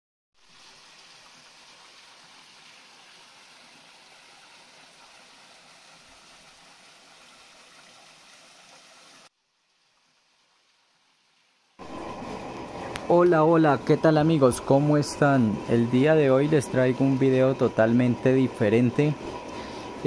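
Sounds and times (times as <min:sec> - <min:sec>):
water spilling over waterfall: 0:00.4 - 0:11.0, 0:11.8 - 0:20.0.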